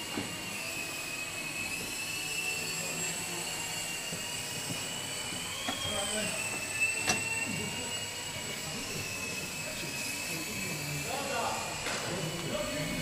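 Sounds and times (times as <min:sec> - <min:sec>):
small helicopter motor whine: 0:00.0 - 0:13.0.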